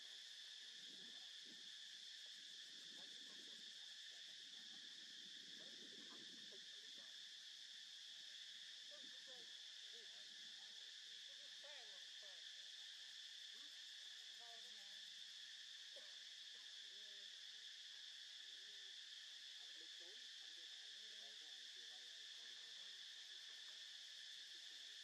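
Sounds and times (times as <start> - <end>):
shrill insect chorus: 0.0 - 25.0.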